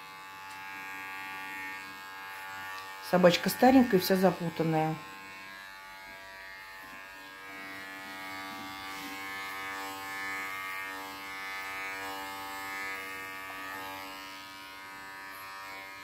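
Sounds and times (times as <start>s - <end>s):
pet clipper buzzing: 0.0s - 16.0s.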